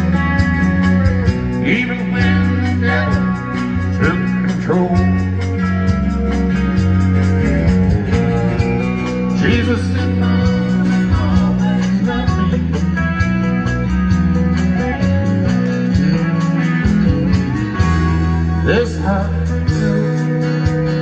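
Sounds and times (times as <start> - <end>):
acoustic guitar: 0.0 - 21.0
drums steady beat: 0.0 - 21.0
electric bass: 0.0 - 21.0
electric guitar: 0.0 - 21.0.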